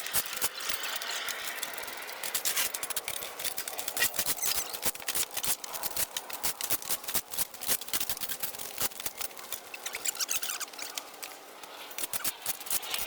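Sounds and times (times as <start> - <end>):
pruning shears snipping brush: 0.0 - 13.0.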